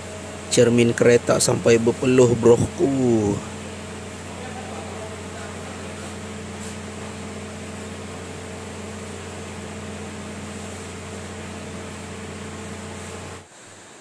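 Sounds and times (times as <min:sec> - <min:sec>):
car engine idling: 0:00.0 - 0:13.4
air conditioning blower rushing: 0:00.0 - 0:14.0.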